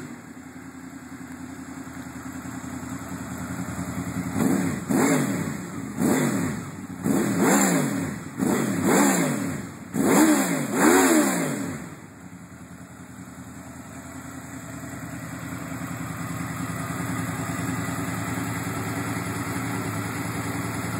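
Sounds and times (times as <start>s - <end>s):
motorcycle engine idling: 0.0s - 10.7s, 11.6s - 20.9s
motorcycle engine revving: 2.3s - 20.9s.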